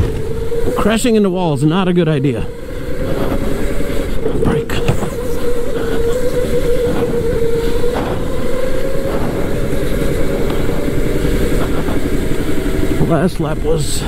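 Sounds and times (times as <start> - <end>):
electric go-kart motor whining: 0.0 - 14.0
low rumble: 0.0 - 14.0.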